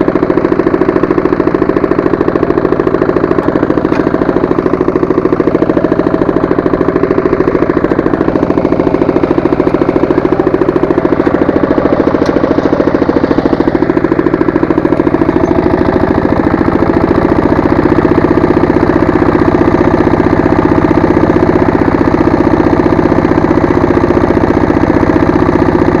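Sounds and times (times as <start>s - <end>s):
tractor engine chugging: 0.0s - 26.0s.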